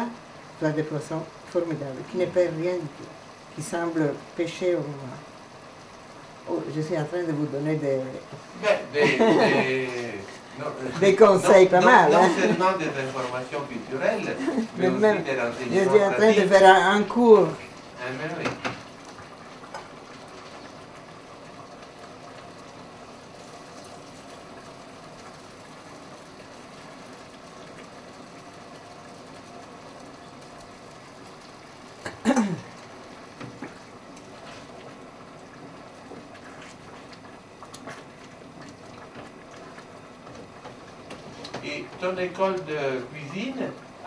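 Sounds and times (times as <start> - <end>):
pans simmering hiss: 0.0 - 44.0.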